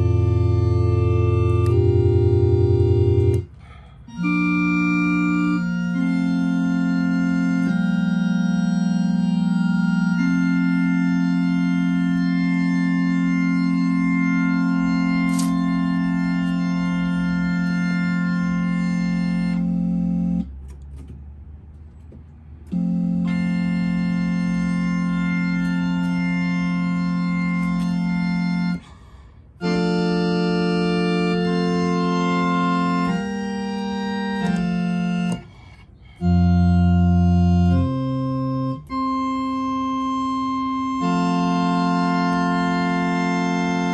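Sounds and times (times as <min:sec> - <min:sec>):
electronic organ chords: 0:00.0 - 0:21.1, 0:21.9 - 0:43.9
deep organ bass notes: 0:00.0 - 0:43.9.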